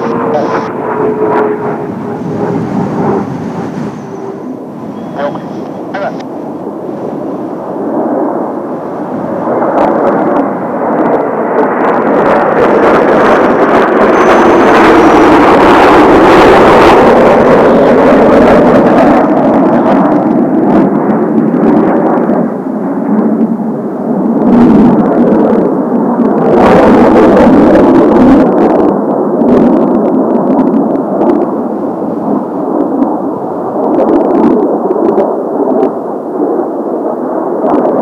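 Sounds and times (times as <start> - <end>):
jet aircraft roaring overhead: 0.0 - 38.0.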